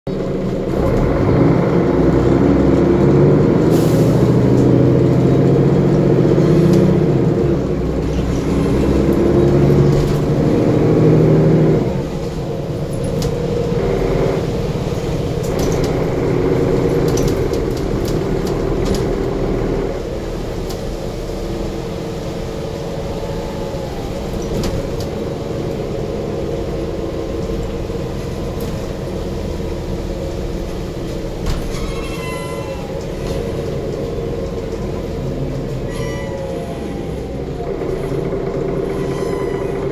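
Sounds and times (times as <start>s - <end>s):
bus diesel engine pulling hard: 0.1s - 39.9s.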